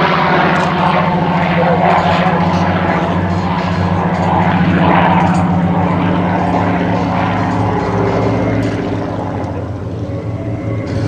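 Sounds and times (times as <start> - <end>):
propeller plane engine passing: 0.0 - 11.0.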